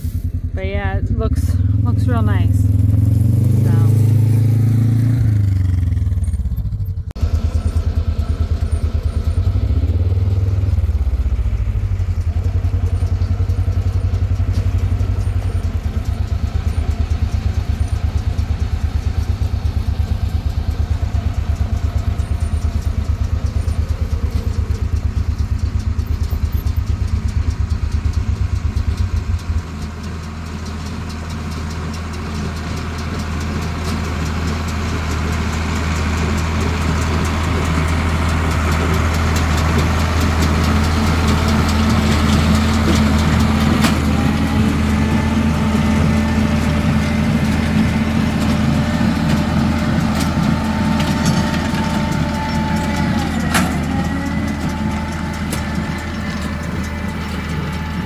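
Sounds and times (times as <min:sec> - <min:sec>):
diesel tractor engine running: 0:00.0 - 0:58.0.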